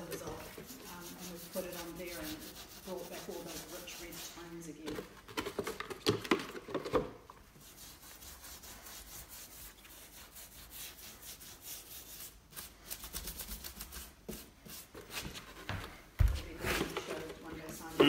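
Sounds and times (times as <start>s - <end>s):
hand brush scrubbing wood: 0.0s - 4.8s, 7.6s - 15.7s, 16.4s - 18.0s.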